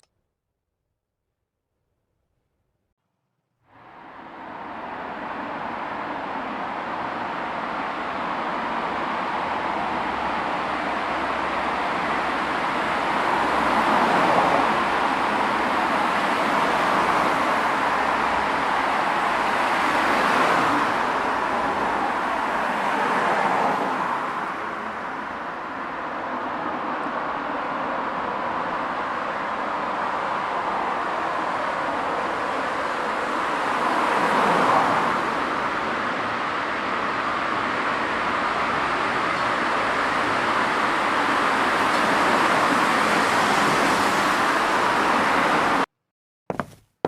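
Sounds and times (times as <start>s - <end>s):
road traffic rushing: 3.7s - 45.9s
vehicles passing close by: 3.7s - 45.9s.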